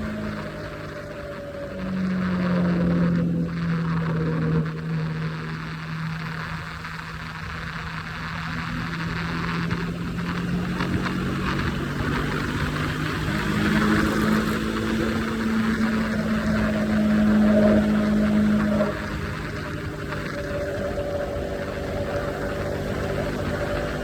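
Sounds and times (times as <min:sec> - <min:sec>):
motorcycle engine running: 0:00.0 - 0:24.0
wind noise: 0:00.0 - 0:24.0.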